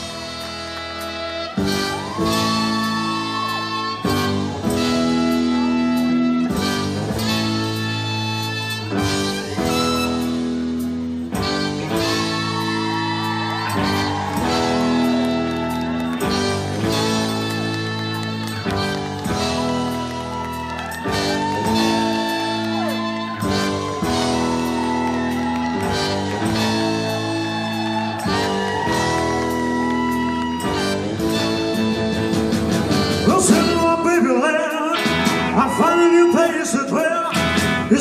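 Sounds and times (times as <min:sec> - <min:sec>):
rock band playing: 0:00.0 - 0:38.0.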